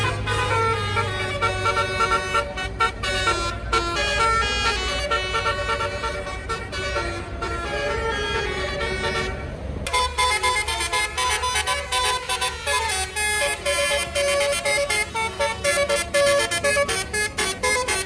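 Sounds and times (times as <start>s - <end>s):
musical bus horn tune: 0.0s - 18.0s.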